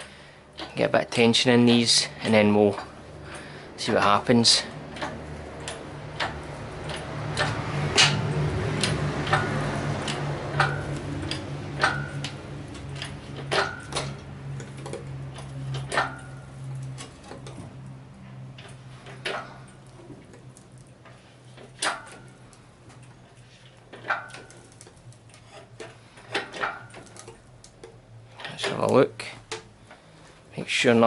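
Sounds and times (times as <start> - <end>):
hydraulic hoist clicks and clanks: 0.0 - 30.9.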